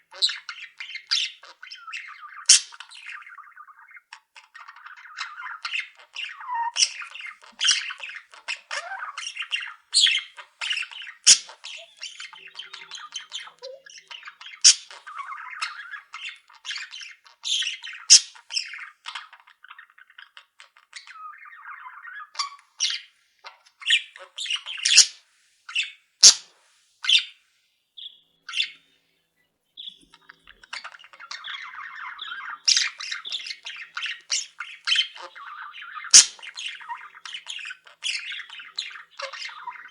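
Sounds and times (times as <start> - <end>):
budgerigar squawks and chirps: 0.0 - 27.3, 28.0 - 28.8, 29.8 - 39.9
budgerigars chattering: 0.0 - 27.3, 28.0 - 28.9, 29.8 - 39.9.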